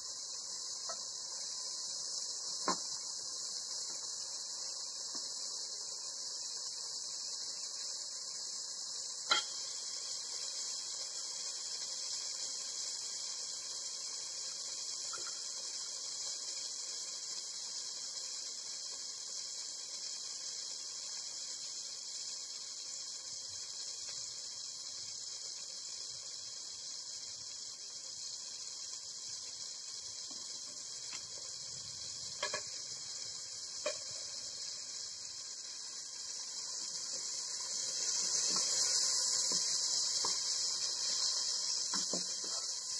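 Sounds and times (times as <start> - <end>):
meat sizzling in a pot: 0.0 - 42.9.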